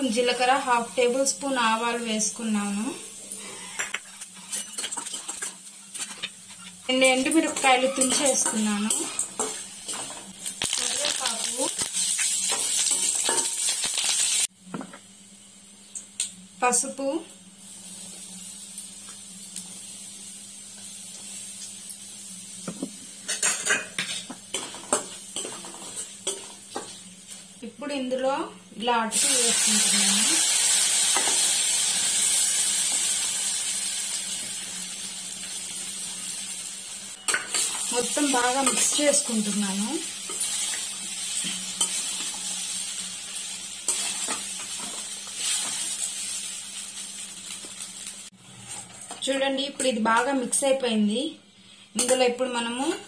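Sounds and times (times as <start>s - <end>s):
light sizzle: 0.0s - 53.0s.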